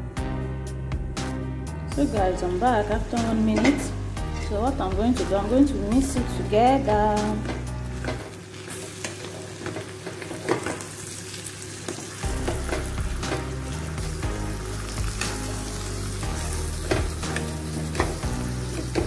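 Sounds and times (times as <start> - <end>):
soft sizzle of frying: 2.0 - 19.0.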